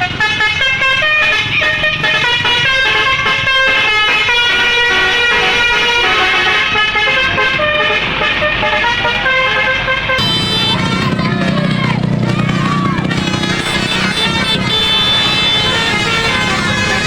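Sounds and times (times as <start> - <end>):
bus musical air horn tune: 0.0 - 17.0.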